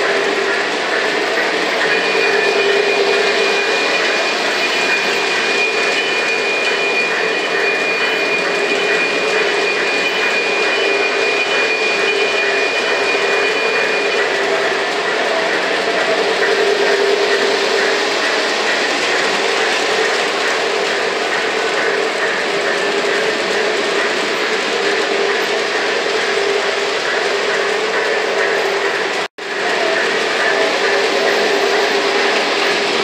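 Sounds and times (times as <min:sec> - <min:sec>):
model trains rumbling on track: 0:00.0 - 0:33.0.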